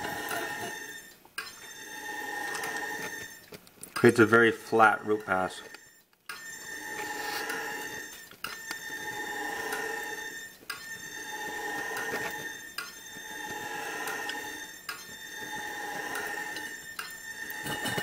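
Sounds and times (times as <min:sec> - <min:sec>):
metallic squeal of turning pipe: 0:00.0 - 0:18.0.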